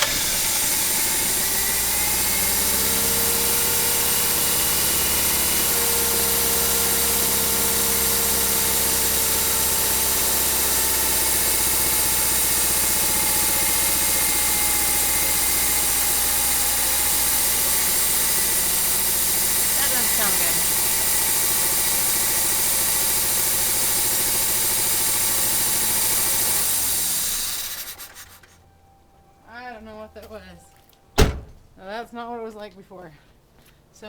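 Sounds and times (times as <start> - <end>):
car engine idling: 0.0 - 28.5, 31.2 - 31.8.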